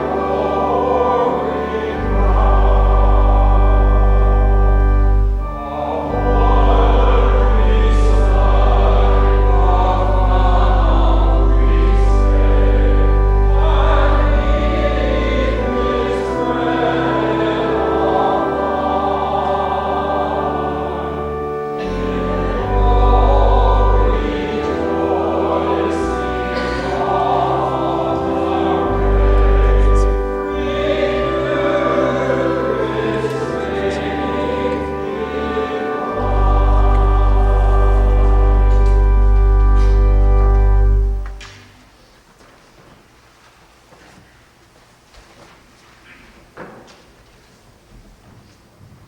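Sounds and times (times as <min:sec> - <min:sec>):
choir singing church music: 0:00.0 - 0:42.0.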